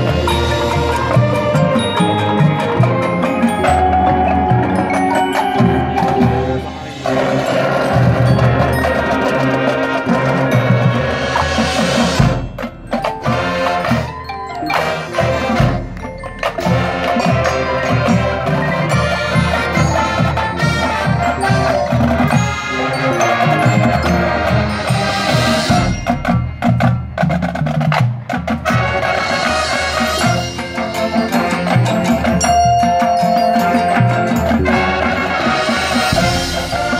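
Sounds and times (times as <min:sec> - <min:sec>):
mallet percussion ringing notes: 0:00.0 - 0:28.0, 0:29.9 - 0:36.9
brass instruments: 0:00.0 - 0:36.9
drumline drumming: 0:00.0 - 0:36.9
marching band playing: 0:00.0 - 0:36.9.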